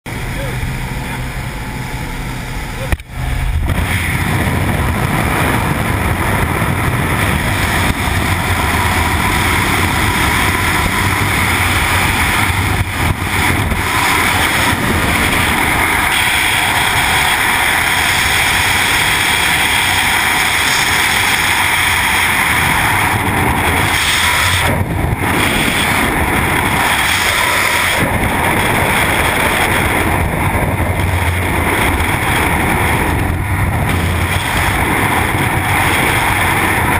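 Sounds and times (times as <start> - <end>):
wind blasting over microphone: 0.1 - 36.9.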